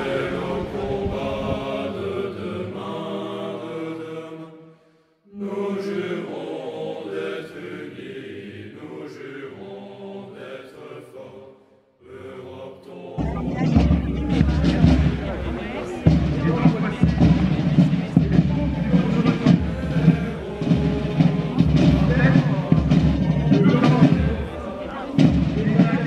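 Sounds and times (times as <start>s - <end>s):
choir singing held notes: 0.0s - 26.0s.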